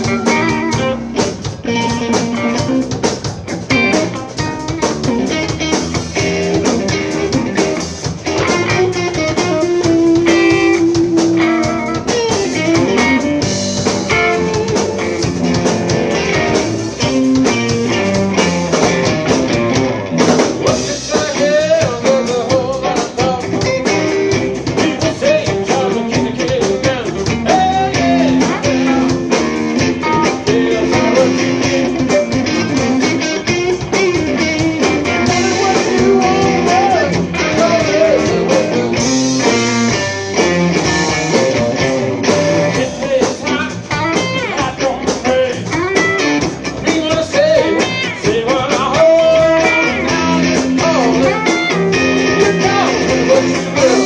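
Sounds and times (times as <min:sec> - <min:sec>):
blues-rock band playing: 0:00.0 - 0:54.0
electric guitar lead bending notes: 0:00.0 - 0:54.0.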